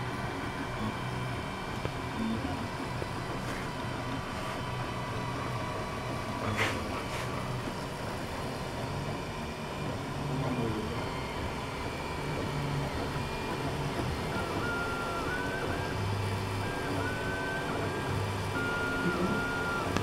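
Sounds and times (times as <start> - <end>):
cooling fan whirring: 0.0 - 20.0
stepper motors humming: 0.0 - 20.0.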